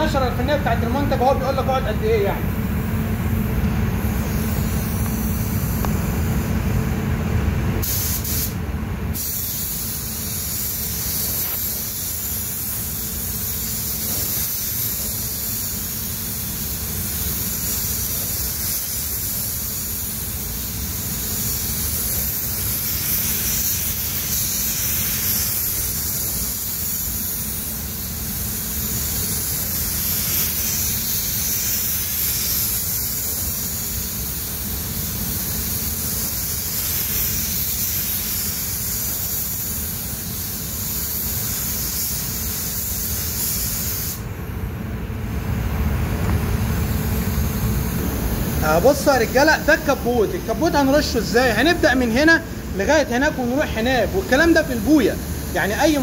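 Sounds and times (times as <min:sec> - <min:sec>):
spray gun hissing: 0:00.0 - 0:06.6, 0:07.8 - 0:44.4, 0:45.8 - 0:56.0.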